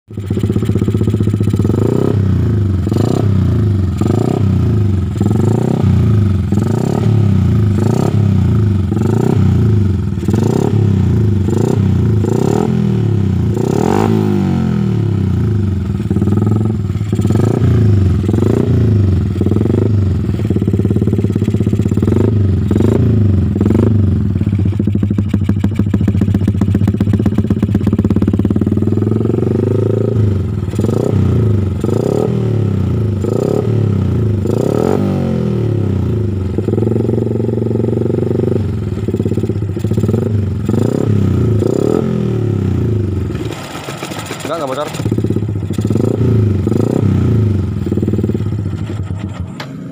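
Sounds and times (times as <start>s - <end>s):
motorcycle engine revving: 0.1s - 49.9s.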